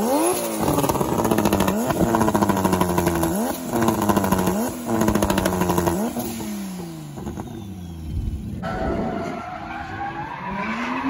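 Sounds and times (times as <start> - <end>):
exhaust crackling and popping: 0.0 - 9.3
car engine revving: 0.0 - 11.0.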